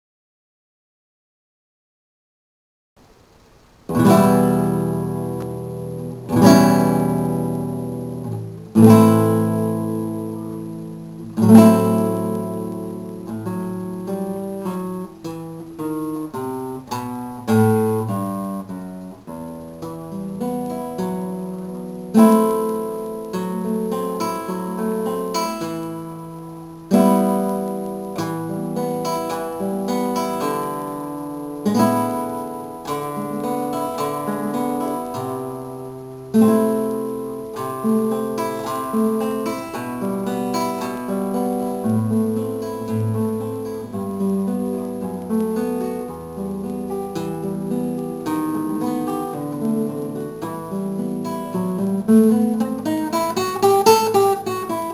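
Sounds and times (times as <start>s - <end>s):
acoustic guitar strumming and picking: 3.8s - 54.9s.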